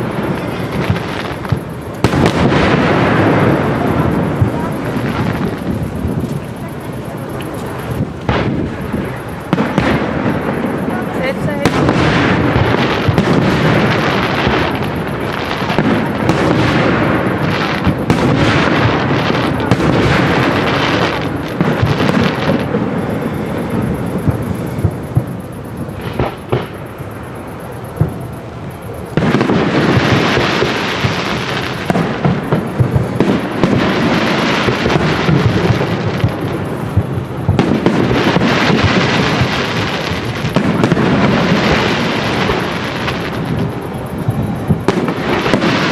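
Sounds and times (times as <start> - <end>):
fireworks shells bursting: 0.0 - 45.9.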